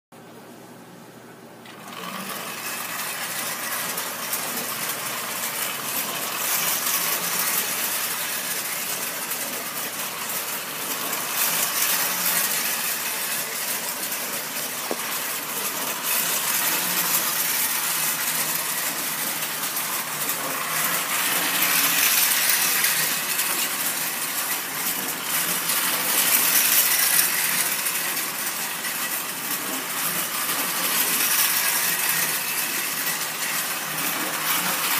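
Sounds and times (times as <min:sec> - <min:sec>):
toy train clattering on metal track: 0:01.6 - 0:34.9
toy train motor whirring: 0:01.6 - 0:34.9.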